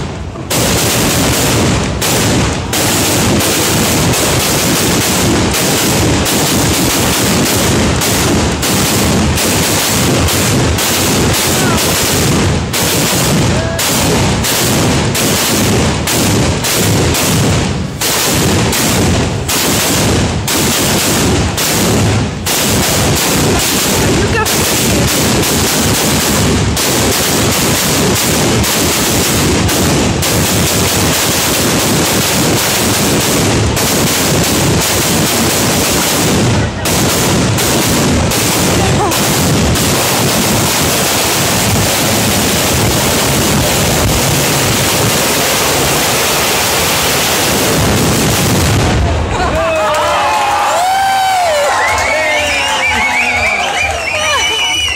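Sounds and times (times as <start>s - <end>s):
firecrackers cracking: 0.0s - 54.9s.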